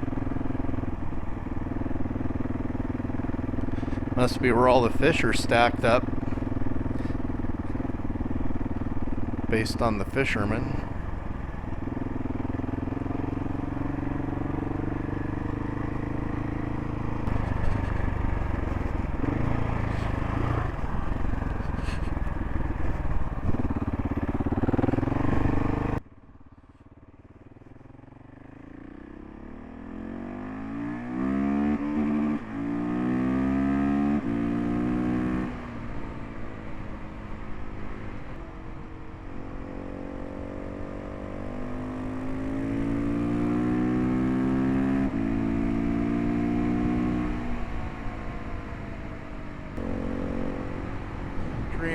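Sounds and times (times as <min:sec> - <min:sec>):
motorcycle engine: 0:00.0 - 0:51.9
road and wind noise: 0:00.0 - 0:51.9.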